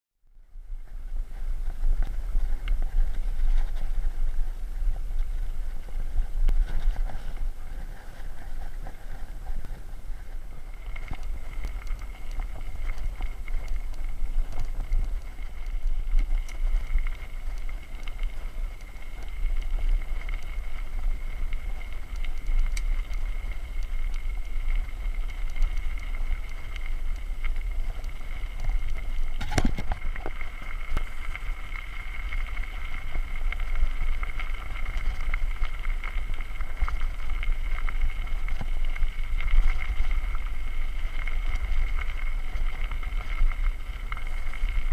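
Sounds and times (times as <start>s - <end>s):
wind on microphone: 0.3s - 44.9s
bike tyre noise: 0.4s - 44.9s.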